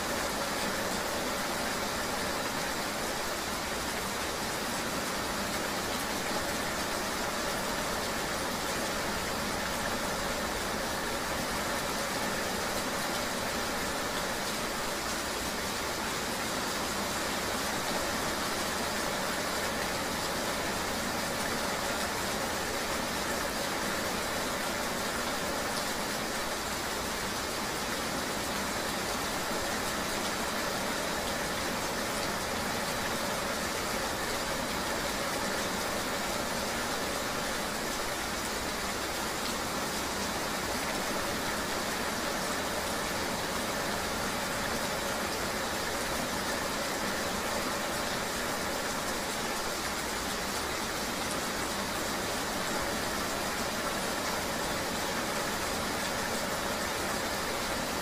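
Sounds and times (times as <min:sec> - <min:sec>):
rain: 0:00.0 - 0:58.0.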